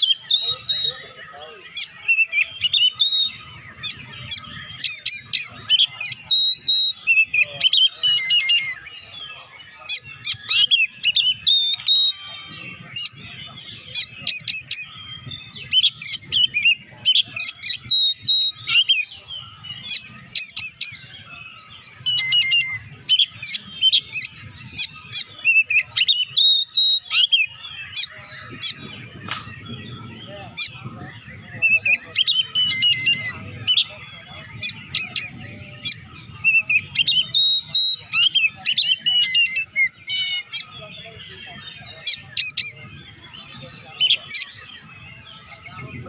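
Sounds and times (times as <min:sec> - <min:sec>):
songbird whistling and chattering: 0:00.0 - 0:46.0.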